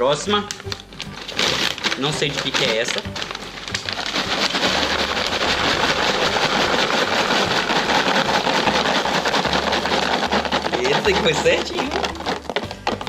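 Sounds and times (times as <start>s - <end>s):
popcorn popping: 0.0s - 13.0s.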